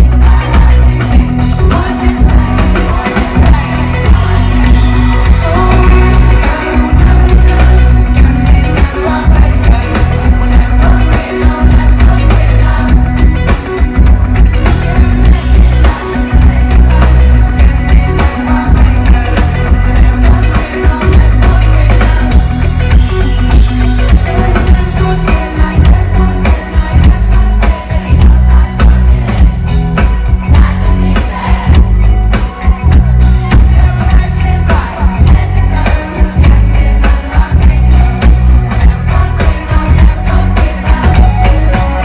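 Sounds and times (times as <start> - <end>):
driving drum beat: 0.0 - 42.0
guitar: 0.0 - 42.0
heavy bass: 0.0 - 42.0
live rock band playing: 0.0 - 42.0.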